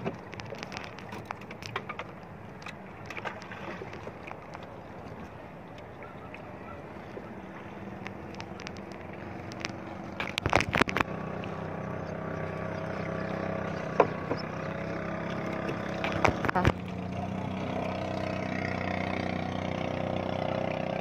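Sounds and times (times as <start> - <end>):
water splashing and dripping: 0.0 - 19.8
motorboat engine hum: 0.0 - 21.0.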